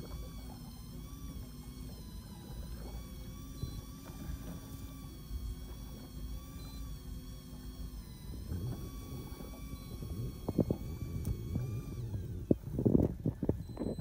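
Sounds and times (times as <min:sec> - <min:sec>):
boat engine rumble: 0:00.0 - 0:14.0
electric fishing reel motor whine: 0:00.0 - 0:14.0.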